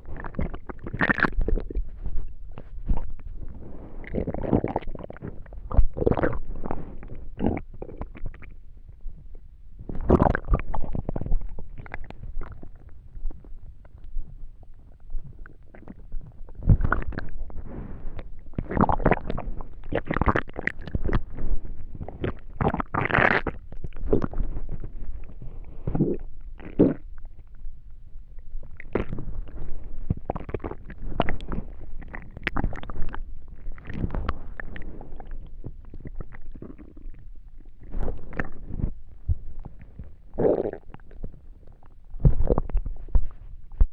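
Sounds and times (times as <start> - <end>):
stomach rumbling and gurgling: 0.0 - 43.9.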